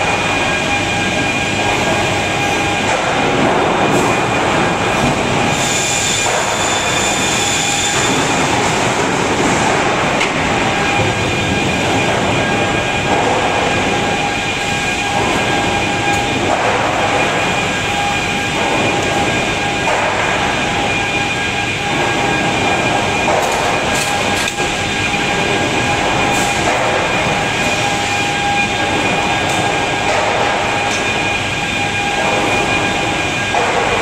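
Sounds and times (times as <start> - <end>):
high machine whine: 0.0 - 34.0
sawmill machinery din: 0.0 - 34.0.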